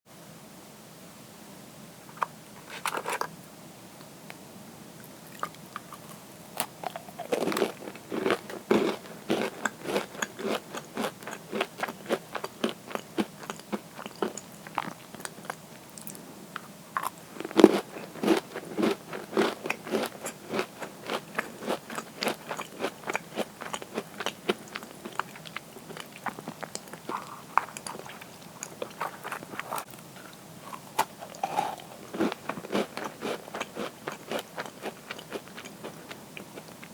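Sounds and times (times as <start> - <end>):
cookies being crunched: 5.3 - 16.2, 17.0 - 30.0, 30.7 - 36.8.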